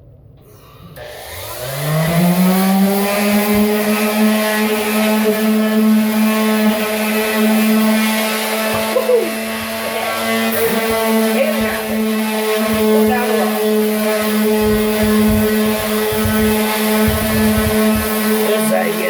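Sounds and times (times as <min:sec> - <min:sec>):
orbital sander humming: 0:00.9 - 0:19.0.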